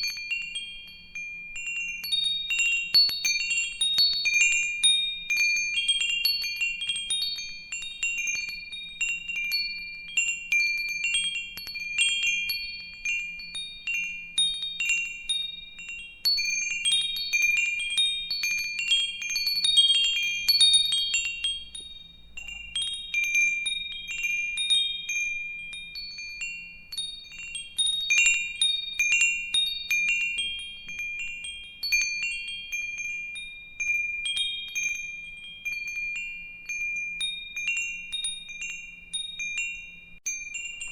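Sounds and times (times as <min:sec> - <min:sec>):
wind chimes ringing: 0:00.0 - 0:40.9.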